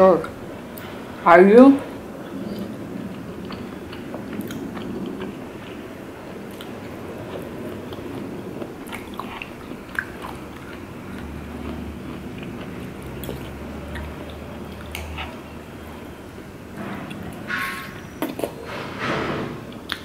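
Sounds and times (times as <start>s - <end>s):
chewing with wet mouth sounds: 1.8s - 18.6s.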